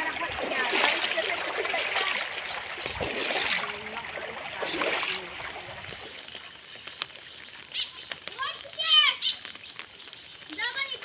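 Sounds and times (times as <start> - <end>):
floodwater splashing and running: 0.0 - 11.0.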